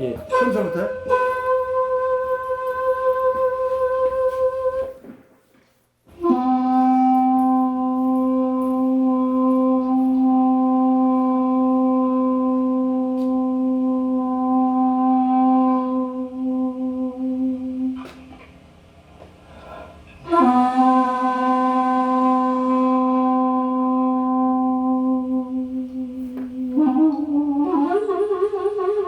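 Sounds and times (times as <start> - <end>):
bamboo flute playing slow music: 0.0 - 5.1, 6.1 - 18.4, 19.6 - 29.0.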